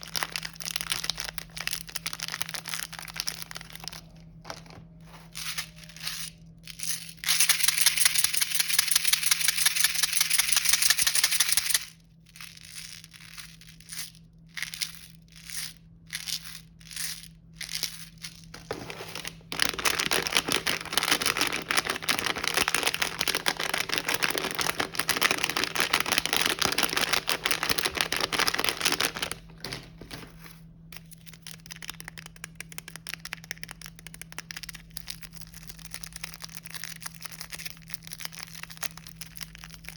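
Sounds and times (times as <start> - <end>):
snack packaging crinkling: 0.0 - 13.9, 17.6 - 39.9.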